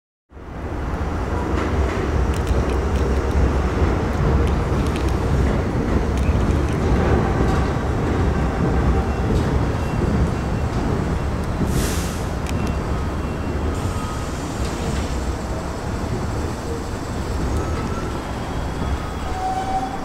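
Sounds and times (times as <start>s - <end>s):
subway train rumble: 0.3s - 20.0s.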